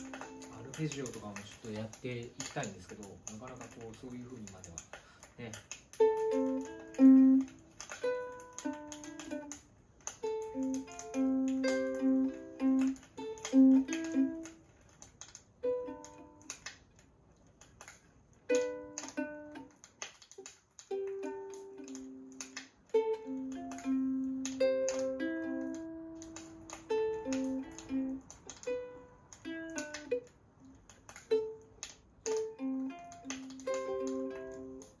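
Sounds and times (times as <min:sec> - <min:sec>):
ukulele plucked melody: 0:00.0 - 0:04.4, 0:05.8 - 0:14.9, 0:15.5 - 0:17.0, 0:18.4 - 0:35.0.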